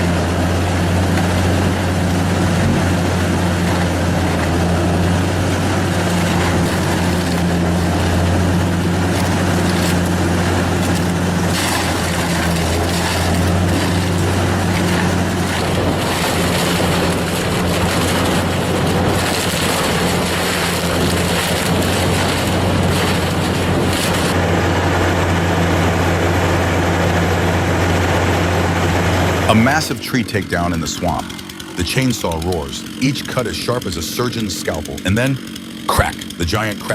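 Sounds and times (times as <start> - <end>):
diesel engine droning under load: 0.0 - 36.9
rushing grinding noise: 0.0 - 36.9.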